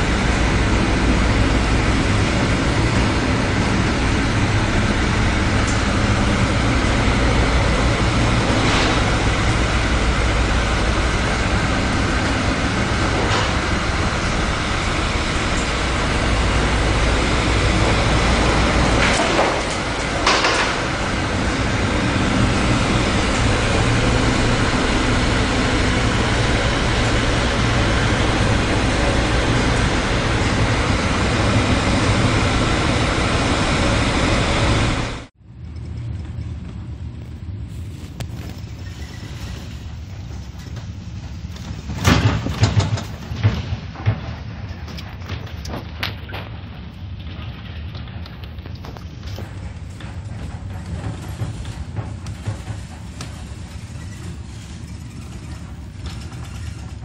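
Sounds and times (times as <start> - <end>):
low rumble of sea: 0.0 - 57.0.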